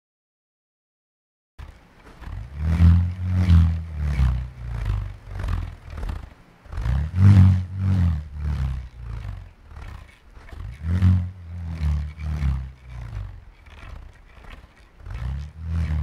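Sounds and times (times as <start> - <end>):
bullroarer buzzing drone: 1.6 - 16.0.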